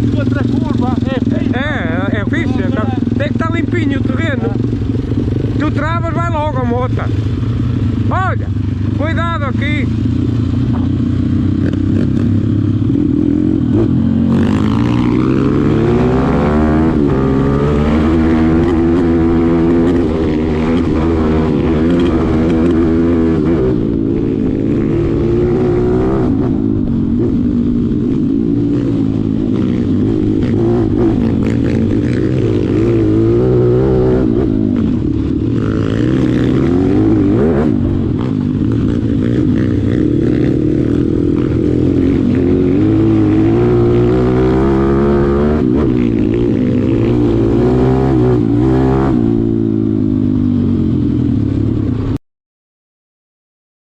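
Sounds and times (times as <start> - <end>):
motorbike engine revving: 0.0 - 52.1.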